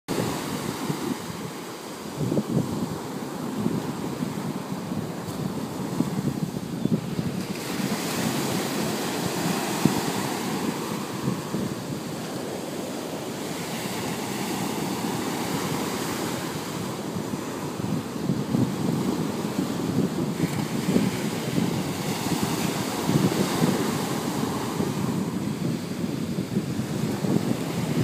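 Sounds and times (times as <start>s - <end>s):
ocean surf washing onto beach: 0.1s - 28.0s
wind buffeting microphone: 0.1s - 28.0s.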